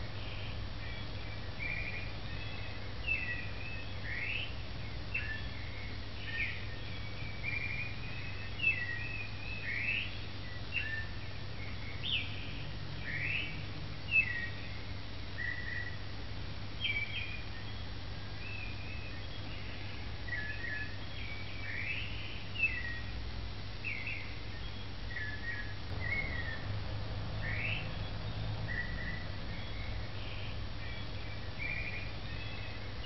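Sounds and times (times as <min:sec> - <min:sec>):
birds chirping and whistling: 0:00.2 - 0:16.0, 0:16.8 - 0:23.1, 0:23.8 - 0:26.8, 0:27.4 - 0:33.0.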